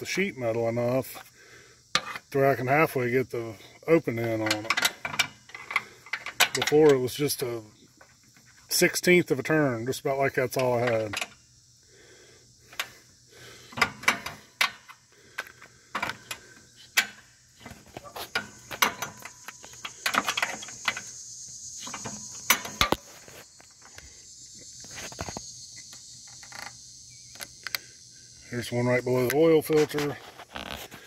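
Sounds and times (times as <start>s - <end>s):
insect chorus: 0.0s - 31.0s.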